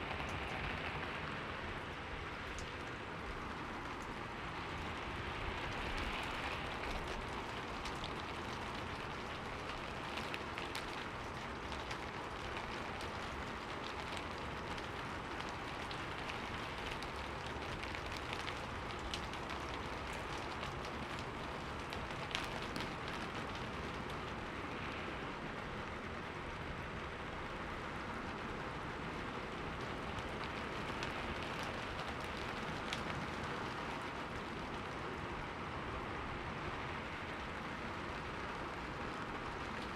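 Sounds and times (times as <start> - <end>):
sharp raindrop ticks: 0.0 - 39.9
steady rain hiss: 0.0 - 39.9.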